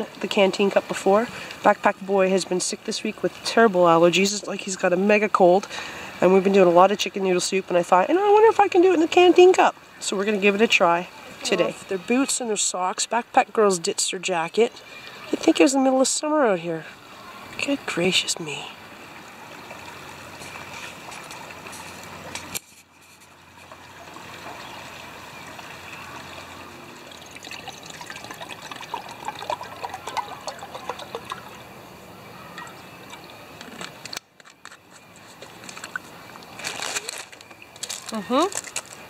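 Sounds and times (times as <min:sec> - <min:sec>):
creek water trickling: 0:00.0 - 0:39.0.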